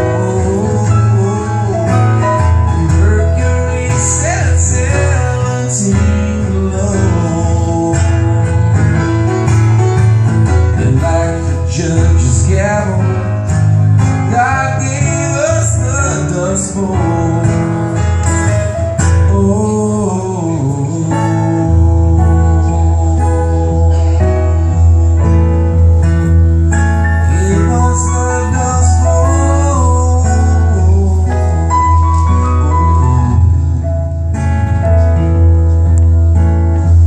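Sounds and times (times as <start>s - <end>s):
piano notes: 0.0s - 37.0s
strummed acoustic guitar: 0.0s - 37.0s.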